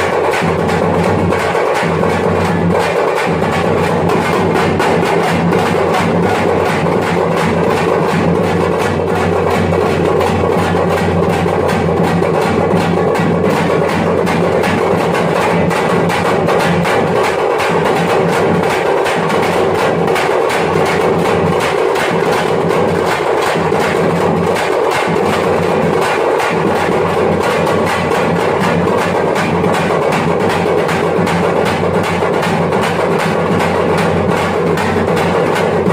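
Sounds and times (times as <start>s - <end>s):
frame drums beaten with sticks: 0.0s - 35.9s.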